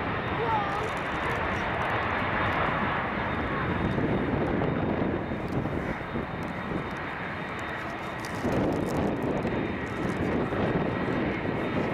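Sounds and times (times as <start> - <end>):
jet engines rumbling at takeoff: 0.0 - 11.9.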